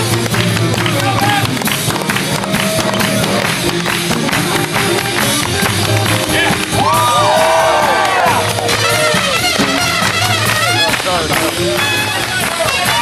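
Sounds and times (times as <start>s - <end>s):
crowd noise: 0.0s - 13.0s
swing music: 0.0s - 13.0s.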